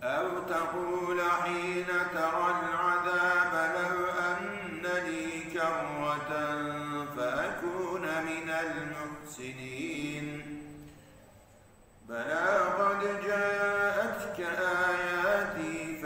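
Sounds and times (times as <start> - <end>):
man chanting melodically: 0.0 - 10.8, 12.0 - 16.0.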